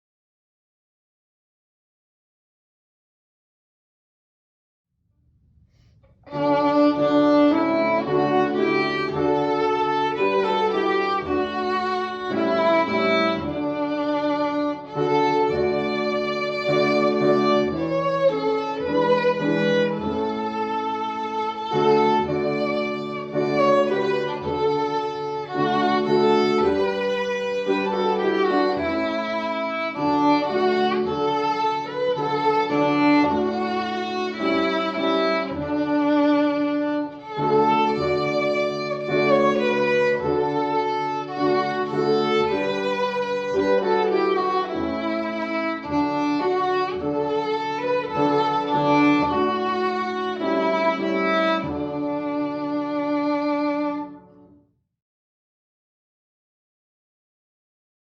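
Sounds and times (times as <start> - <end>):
violin melody over low notes: 6.2 - 54.5.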